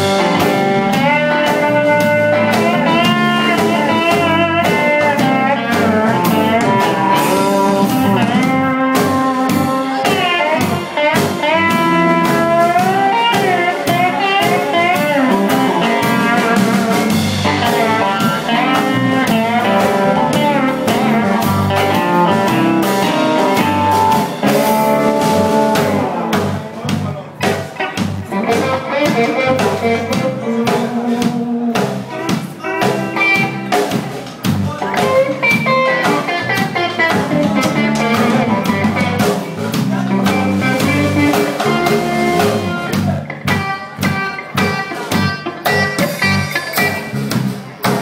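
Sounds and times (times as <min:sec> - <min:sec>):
blues band playing: 0:00.0 - 0:48.0
sliding guitar notes: 0:00.0 - 0:48.0.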